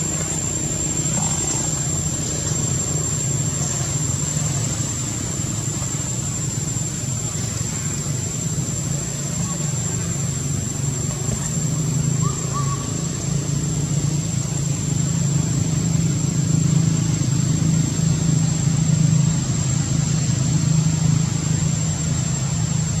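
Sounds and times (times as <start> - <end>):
high-pitched whine: 0.0 - 23.0
low engine-like hum: 0.0 - 23.0.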